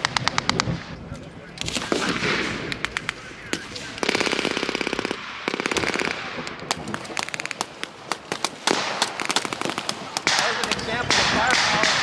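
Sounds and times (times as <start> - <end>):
single rifle shots: 1.6 - 12.0.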